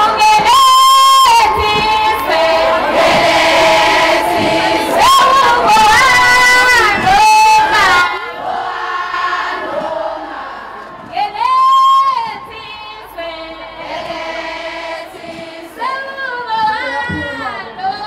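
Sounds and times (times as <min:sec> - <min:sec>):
crowd singing: 0:00.0 - 0:18.0.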